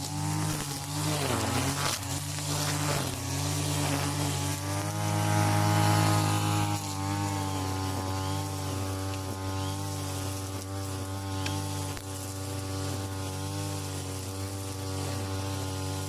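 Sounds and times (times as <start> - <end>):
brush cutter running: 0.0 - 16.0.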